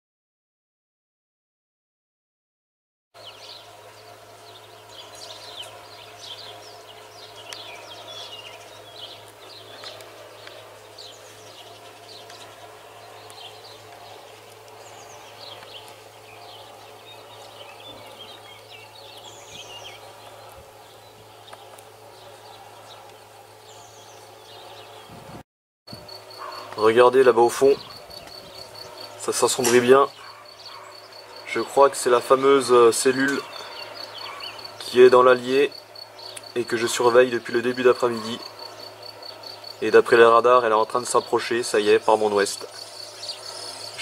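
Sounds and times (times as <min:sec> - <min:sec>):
small birds chirping and singing: 0:03.2 - 0:44.0
steady low hum: 0:03.2 - 0:44.0.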